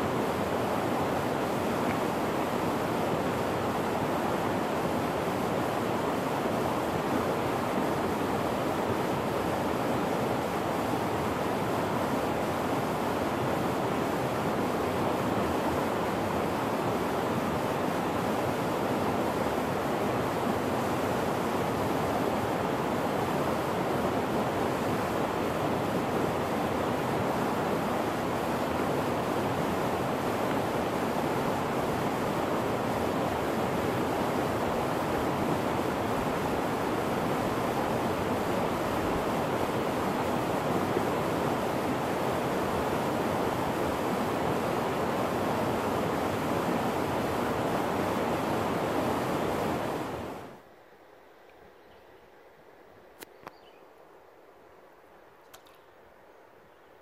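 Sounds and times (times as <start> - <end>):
river rapids rushing over rocks: 0.0 - 50.6.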